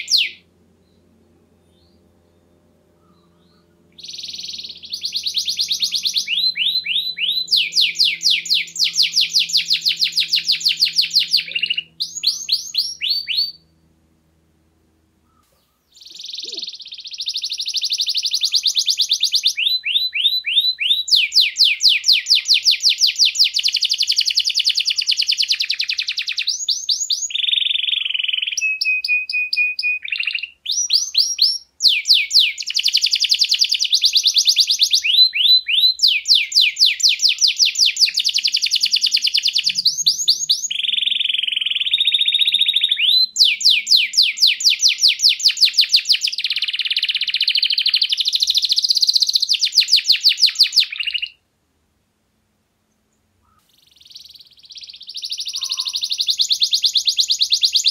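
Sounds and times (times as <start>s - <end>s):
canary singing trills: 0.0s - 13.9s, 15.2s - 51.4s, 53.4s - 57.9s.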